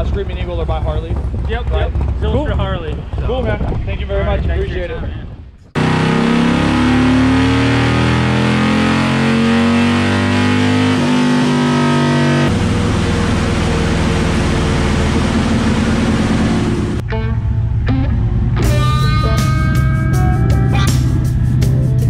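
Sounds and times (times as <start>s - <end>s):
motorcycle engine at full throttle: 0.0s - 22.0s.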